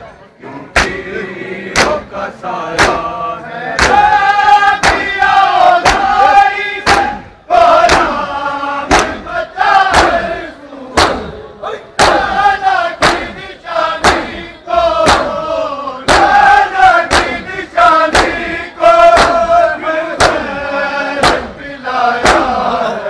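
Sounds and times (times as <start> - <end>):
men chanting a lament: 0.0 - 23.0
men slapping chests: 0.7 - 11.4, 12.0 - 22.8.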